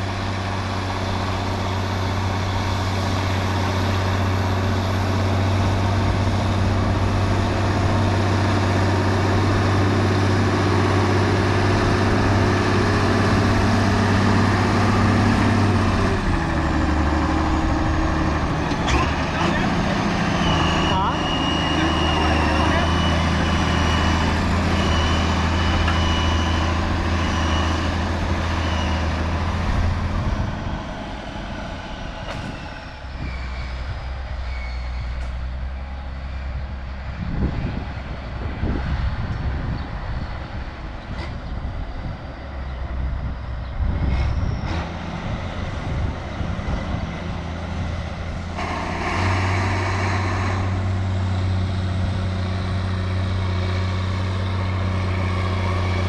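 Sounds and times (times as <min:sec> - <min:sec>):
tractor engine running: 0:00.0 - 0:34.4, 0:35.2 - 0:56.0.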